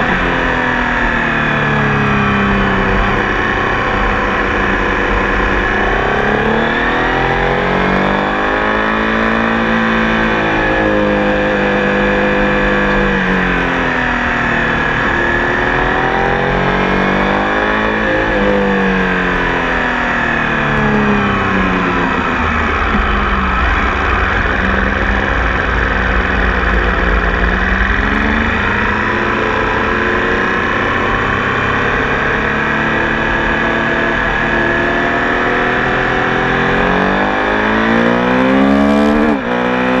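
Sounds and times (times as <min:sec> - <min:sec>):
motorcycle engine revving: 0:00.0 - 0:40.0
wind and road noise: 0:00.0 - 0:40.0.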